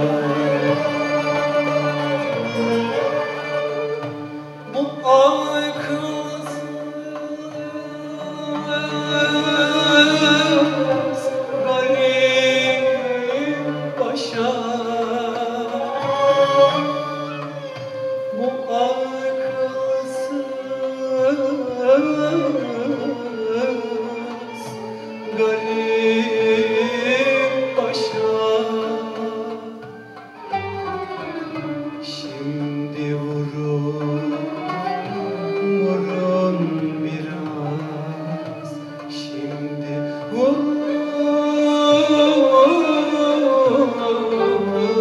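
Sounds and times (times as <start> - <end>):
instrumental ensemble: 0.0 - 45.0
man singing: 4.7 - 29.7, 31.9 - 45.0.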